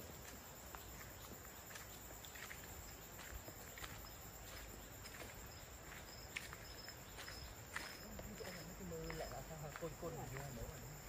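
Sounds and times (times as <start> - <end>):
footsteps on dirt trail: 0.0 - 11.0
insect chirping: 0.0 - 11.0
insects buzzing: 0.0 - 11.0.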